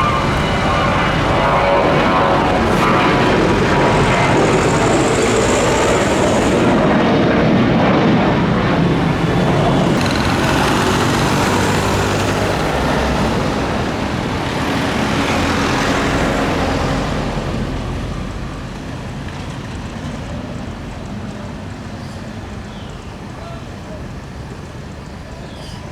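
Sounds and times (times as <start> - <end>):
airliner engines roaring: 0.0 - 25.9.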